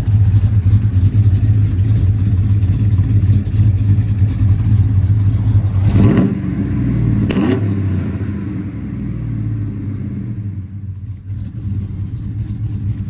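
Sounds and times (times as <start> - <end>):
engine revving and idling: 0.0 - 13.0.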